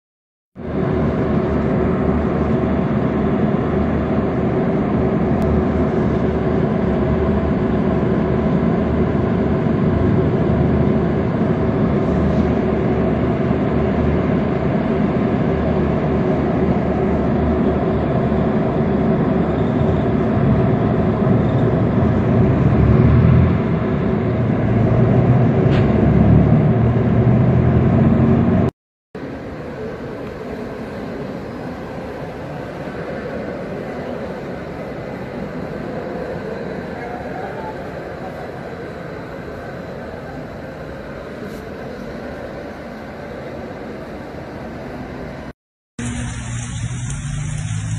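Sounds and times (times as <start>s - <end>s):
faint steady drone: 0.6s - 24.8s, 29.2s - 47.9s.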